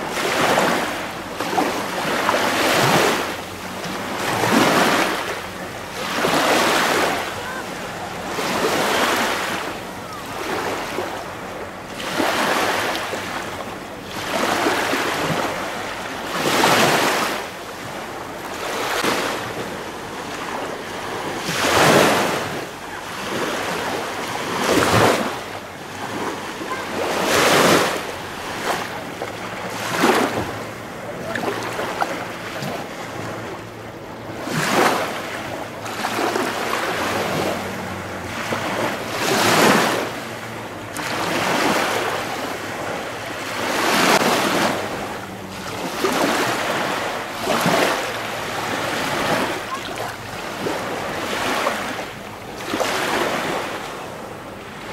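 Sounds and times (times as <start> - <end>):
small waves lapping: 0.0 - 54.9.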